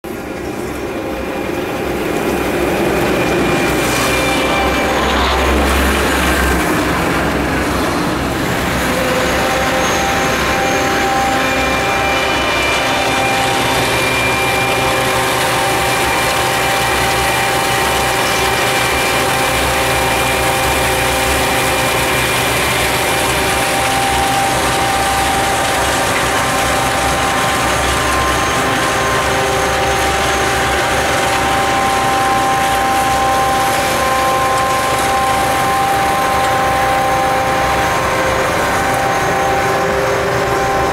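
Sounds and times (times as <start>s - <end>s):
steady whining tones: 0.0s - 40.9s
rotary snow blower mechanical din: 0.1s - 40.9s.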